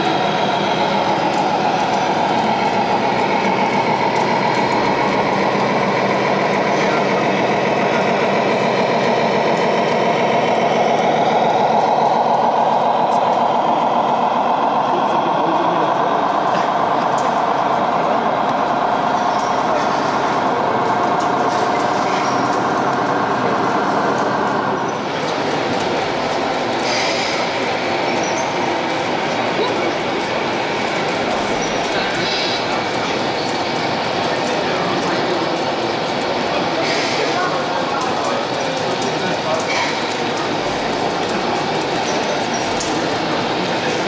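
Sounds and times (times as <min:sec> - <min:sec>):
electronic diesel engine drone: 0:00.0 - 0:37.8.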